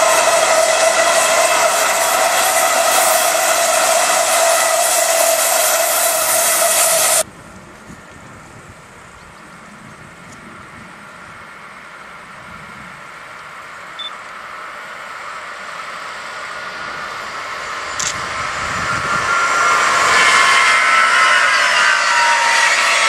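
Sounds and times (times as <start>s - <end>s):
train passing close by: 0.0s - 23.0s.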